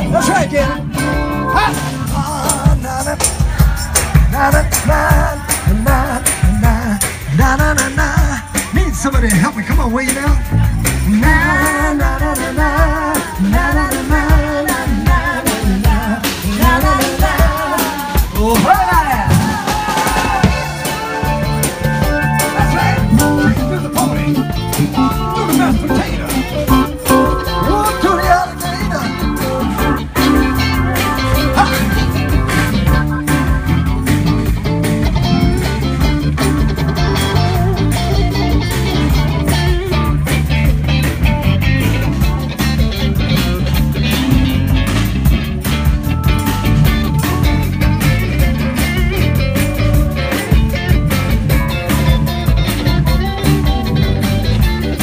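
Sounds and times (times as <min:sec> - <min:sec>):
bass guitar: 0:00.0 - 0:55.0
drum kit beat: 0:00.0 - 0:55.0
electric guitar: 0:00.0 - 0:55.0
live rock band playing: 0:00.0 - 0:55.0.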